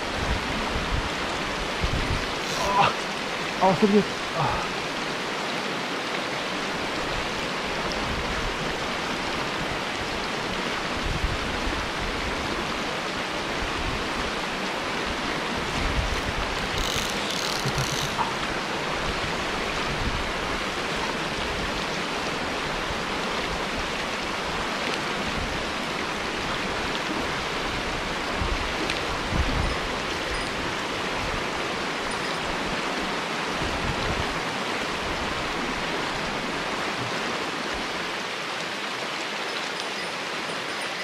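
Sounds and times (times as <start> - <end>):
stream flowing over rocks: 0.0 - 41.0.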